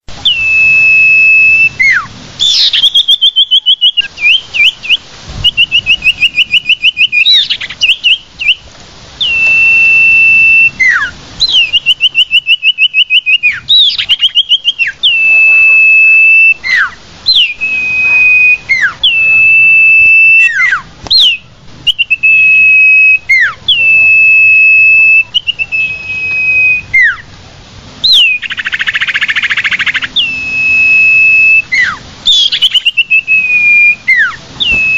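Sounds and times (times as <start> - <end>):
bird singing whistles and trills: 0.2 - 27.3, 28.0 - 34.9.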